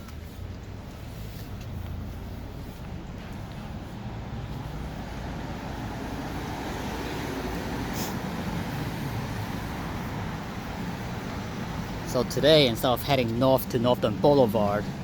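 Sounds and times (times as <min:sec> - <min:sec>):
passing cars rumbling: 0:00.0 - 0:15.0.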